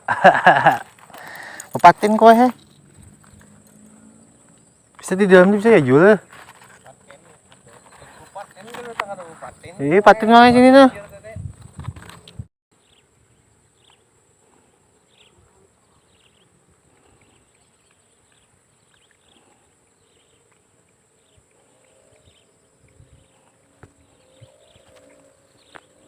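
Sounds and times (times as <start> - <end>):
insect chirps: 0.0 - 26.0
high-pitched insect buzz: 0.1 - 26.0.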